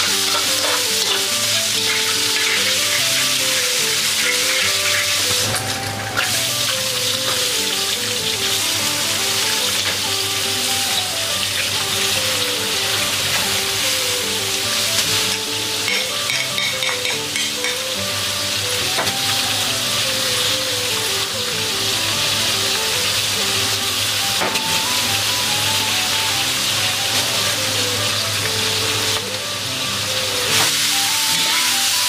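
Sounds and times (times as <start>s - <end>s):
background music: 0.0s - 32.0s
hot oil sizzling in a wok: 0.0s - 32.0s.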